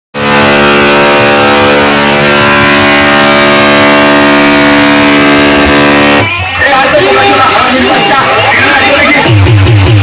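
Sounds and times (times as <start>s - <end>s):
loud buzzing tone from loudspeakers: 0.2s - 10.0s.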